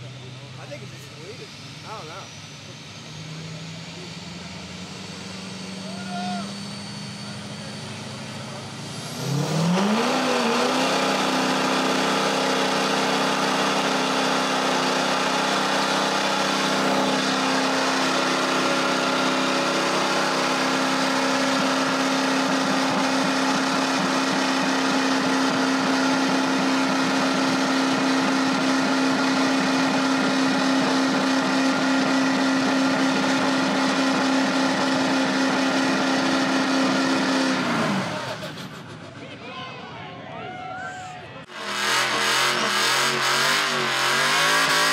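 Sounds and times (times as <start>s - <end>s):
pickup truck engine revving: 0.0s - 39.1s, 41.5s - 44.9s.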